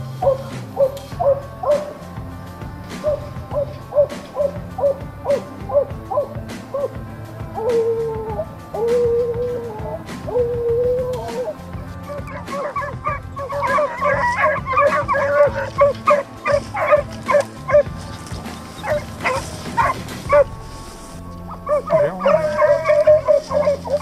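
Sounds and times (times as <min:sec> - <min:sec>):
hounds baying: 0:00.0 - 0:20.6, 0:21.4 - 0:24.0.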